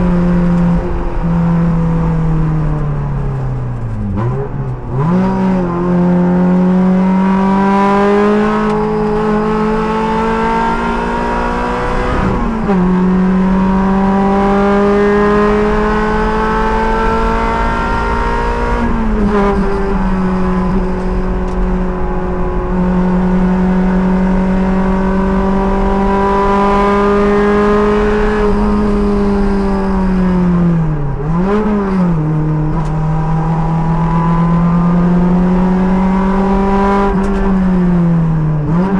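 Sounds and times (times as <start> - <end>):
race car engine accelerating: 0.0 - 38.9.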